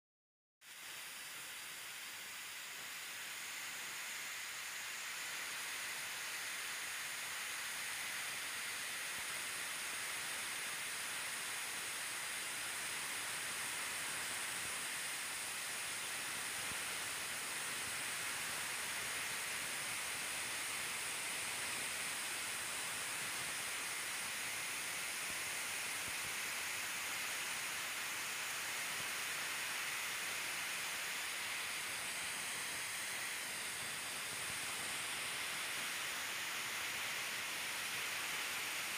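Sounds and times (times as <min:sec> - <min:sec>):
high-pitched hiss: 0:00.6 - 0:38.9.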